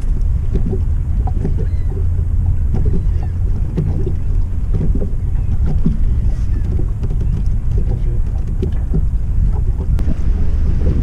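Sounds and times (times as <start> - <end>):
water slapping against boat hull: 0.0 - 11.0
wind buffeting microphone: 0.0 - 11.0.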